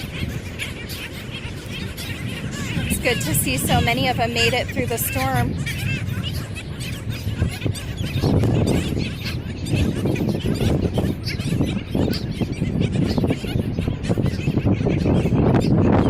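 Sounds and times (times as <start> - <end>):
colony of birds calling: 0.0 - 16.0.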